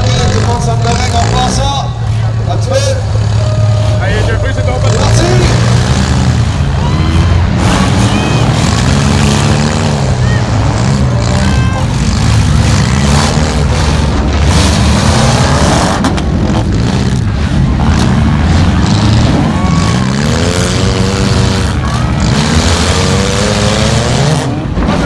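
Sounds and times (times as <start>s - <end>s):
car engines revving: 0.0s - 25.0s
cars crashing: 0.0s - 25.0s.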